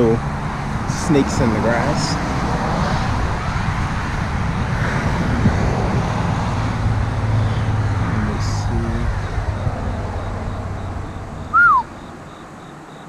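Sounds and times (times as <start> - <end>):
vehicles passing on highway: 0.0 - 13.0
deep engine hum: 2.2 - 12.9.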